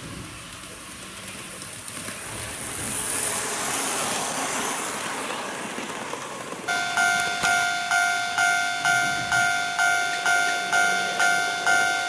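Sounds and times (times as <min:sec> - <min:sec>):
model train running on rails: 0:00.0 - 0:12.0.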